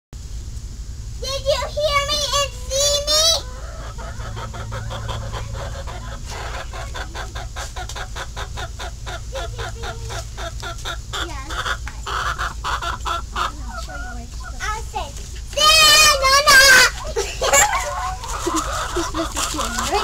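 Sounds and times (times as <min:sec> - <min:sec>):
steady low hum: 0:00.2 - 0:20.0
chickens clucking: 0:01.5 - 0:20.0.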